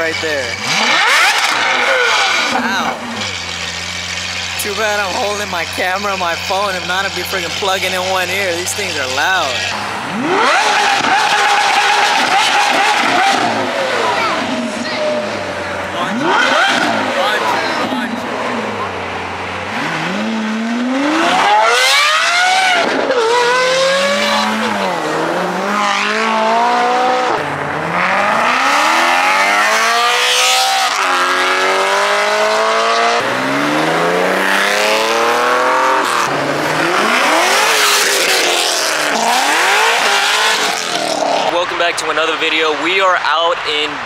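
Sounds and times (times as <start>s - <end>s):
cars accelerating past: 0.0s - 5.3s, 9.0s - 44.0s.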